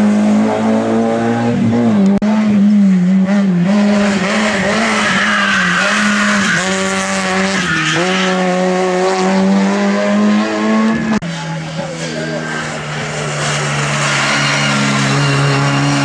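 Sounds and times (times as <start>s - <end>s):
racing car engine at high revs: 0.0s - 16.0s.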